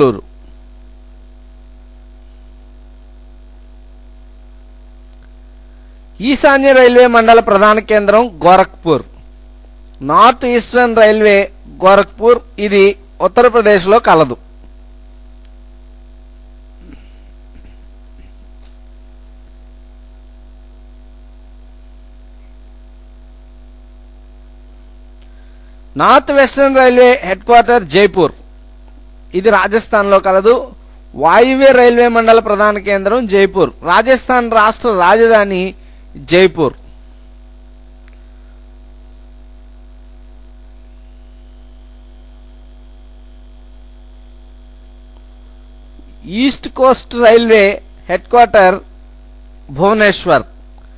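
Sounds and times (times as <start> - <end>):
electrical mains hum: 0.0 - 50.9
faint high-pitched ticking: 0.0 - 50.9
faint steady tones: 0.0 - 50.9.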